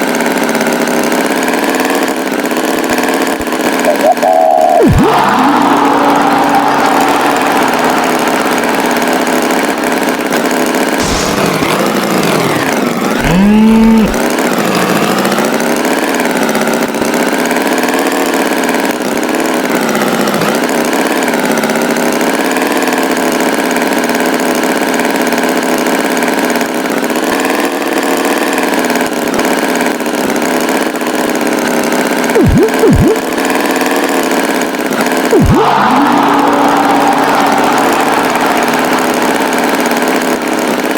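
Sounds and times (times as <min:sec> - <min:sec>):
cartoon tractor engine running: 0:00.0 - 0:40.9.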